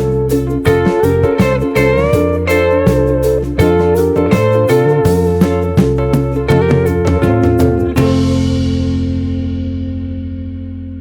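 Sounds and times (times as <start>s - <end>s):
bass: 0.0s - 11.0s
plucked guitar: 0.0s - 11.0s.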